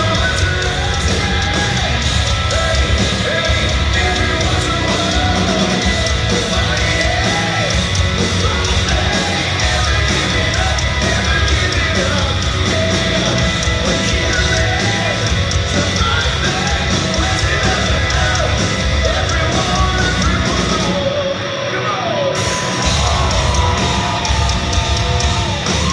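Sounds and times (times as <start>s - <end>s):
hard rock band playing live: 0.0s - 25.9s
shouted lead vocal: 0.0s - 25.9s.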